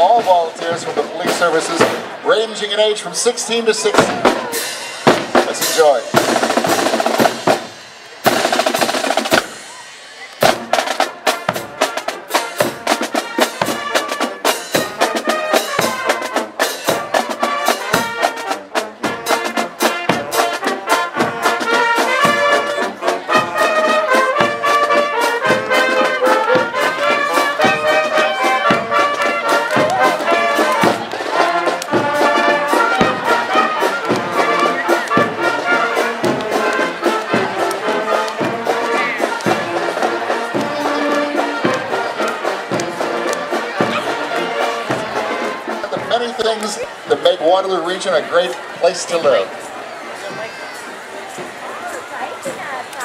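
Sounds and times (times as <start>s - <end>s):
brass melody: 0.0s - 49.5s
marching drums: 0.0s - 53.0s.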